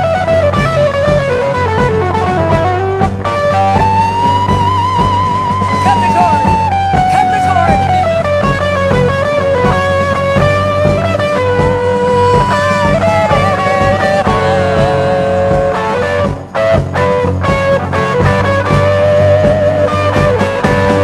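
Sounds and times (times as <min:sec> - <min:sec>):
bass line: 0:00.0 - 0:21.0
electric guitar: 0:00.0 - 0:21.0.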